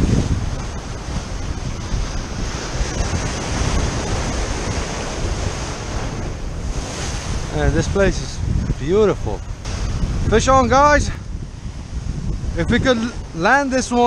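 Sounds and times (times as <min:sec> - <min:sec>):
ocean surf against seawall: 0:00.0 - 0:14.0
wind buffeting microphone: 0:00.0 - 0:14.0.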